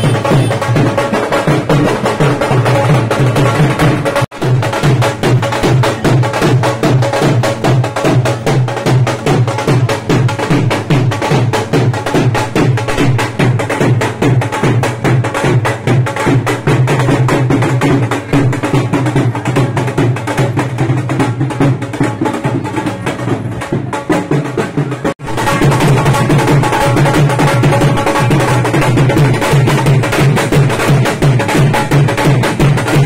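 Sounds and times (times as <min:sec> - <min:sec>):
barrel drum played with sticks: 0:00.0 - 0:33.0.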